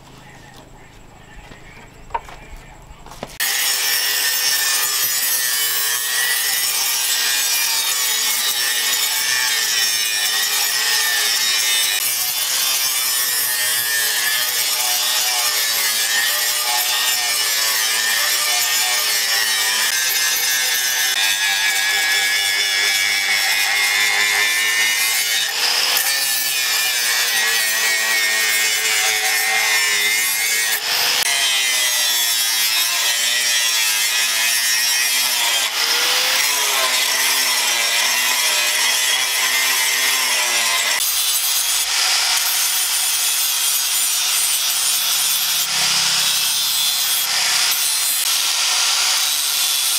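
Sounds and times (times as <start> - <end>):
angle grinder grinding steel: 3.3 - 49.9.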